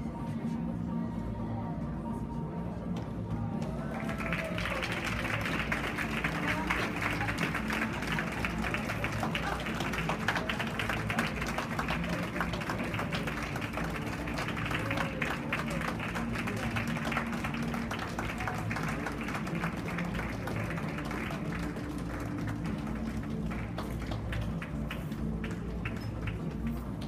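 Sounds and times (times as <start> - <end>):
music playing: 0.0 - 27.0
audience clapping: 3.6 - 27.0.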